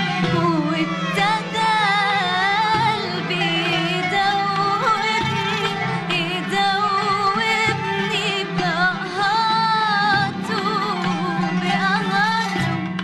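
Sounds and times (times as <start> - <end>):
instrumental accompaniment: 0.0 - 13.0
person singing: 0.0 - 13.0.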